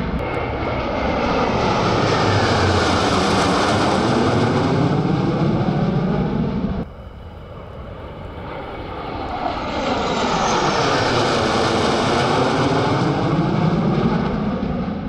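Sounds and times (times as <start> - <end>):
jet fighters flying past: 0.0 - 15.0.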